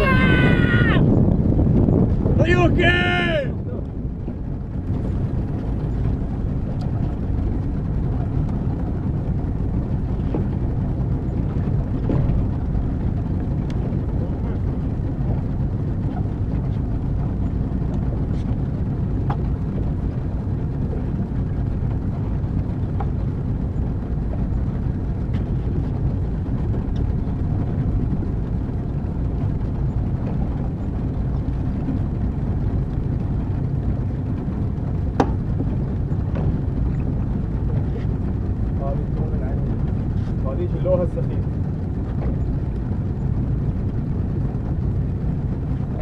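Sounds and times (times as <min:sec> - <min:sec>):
boat motor droning: 0:00.0 - 0:46.0.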